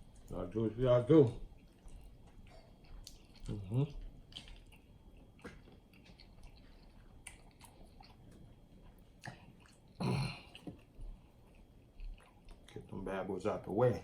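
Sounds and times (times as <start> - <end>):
wet chewing mouth sounds: 1.2 - 13.1.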